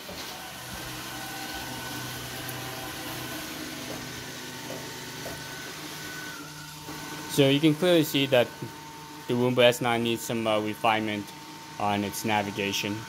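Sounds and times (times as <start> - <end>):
robot vacuum humming: 0.0 - 13.0.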